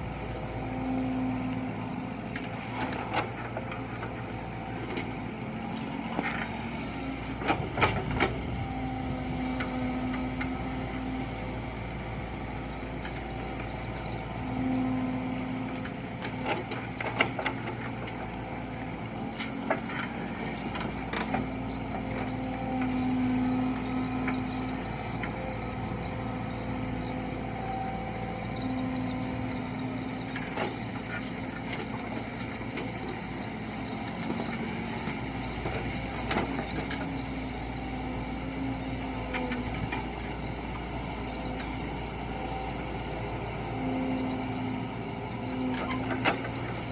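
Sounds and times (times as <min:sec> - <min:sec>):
diesel machinery running: 0:00.0 - 0:46.9.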